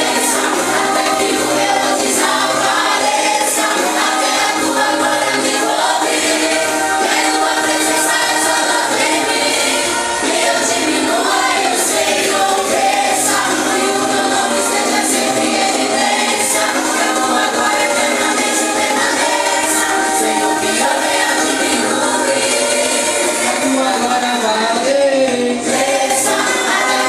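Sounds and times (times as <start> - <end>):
group singing worship song: 0.0 - 27.0
musical accompaniment: 0.0 - 27.0.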